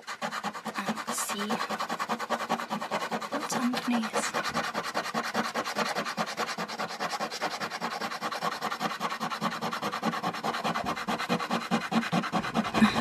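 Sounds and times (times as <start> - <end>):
coin scratching paper coating: 0.0 - 13.0.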